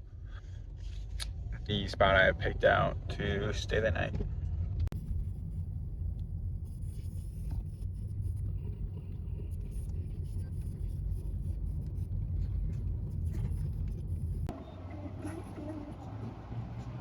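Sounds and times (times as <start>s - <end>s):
car cabin engine and road rumble: 0.1s - 17.0s.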